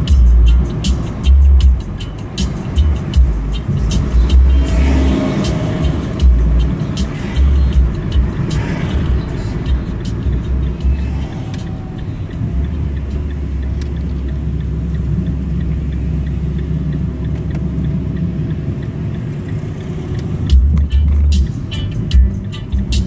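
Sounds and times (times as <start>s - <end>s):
car engine and road noise rumble: 0.0s - 23.0s.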